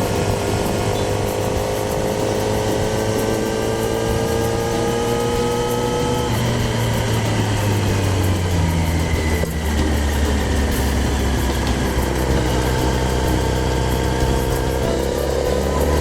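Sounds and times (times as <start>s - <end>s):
motorcycle engine decelerating: 0.0s - 16.0s.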